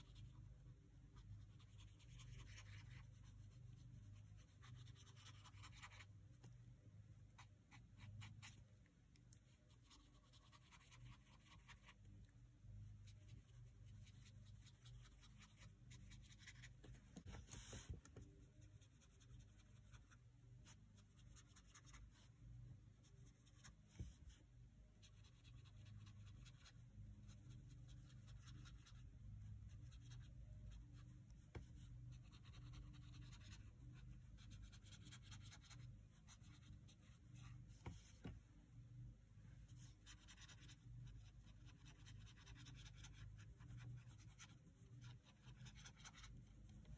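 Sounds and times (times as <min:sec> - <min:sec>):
low steady hum: 0:00.0 - 0:46.9
brush pen scratching on paper: 0:01.2 - 0:06.1, 0:07.3 - 0:08.7, 0:09.4 - 0:12.1, 0:13.0 - 0:22.4, 0:25.0 - 0:38.4, 0:39.8 - 0:46.9.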